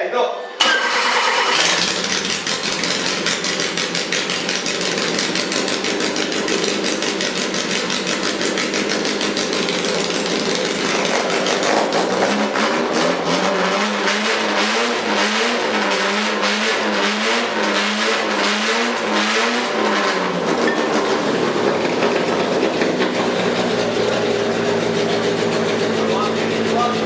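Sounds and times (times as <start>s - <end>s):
car engine starting and idling: 0.6s - 27.0s.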